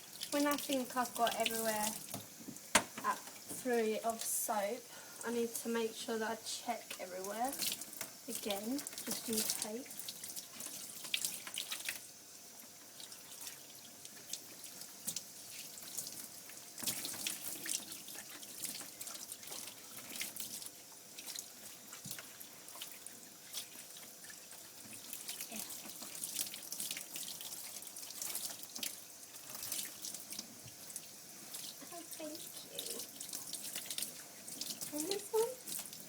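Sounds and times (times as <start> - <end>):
running water splashing on wet fur: 0.0 - 36.0.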